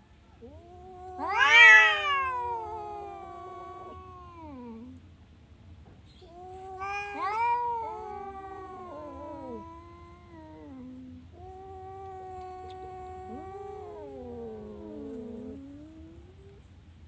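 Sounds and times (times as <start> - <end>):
cat meowing: 0.4 - 5.0, 6.2 - 16.6.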